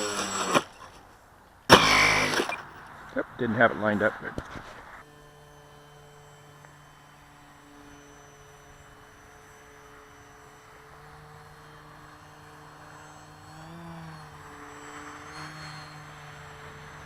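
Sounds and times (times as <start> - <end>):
model plane motor humming: 0.0 - 1.0, 1.7 - 3.1, 4.4 - 17.0.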